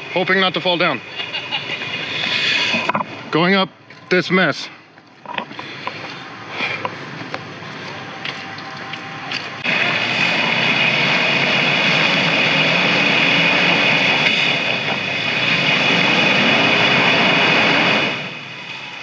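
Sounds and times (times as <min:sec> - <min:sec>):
high whine: 0:00.0 - 0:19.0
vehicle engine running under load: 0:00.0 - 0:19.0.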